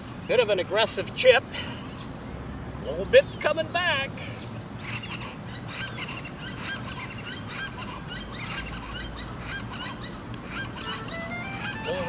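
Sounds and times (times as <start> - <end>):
birds calling in chorus: 0.0 - 12.0.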